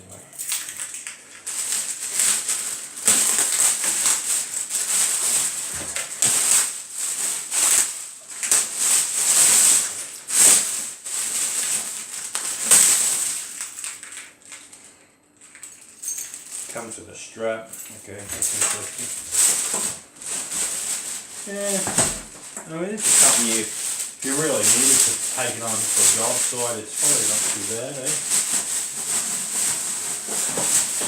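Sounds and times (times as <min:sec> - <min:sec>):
packaging rustling and crinkling: 0:00.4 - 0:17.0, 0:17.8 - 0:31.0.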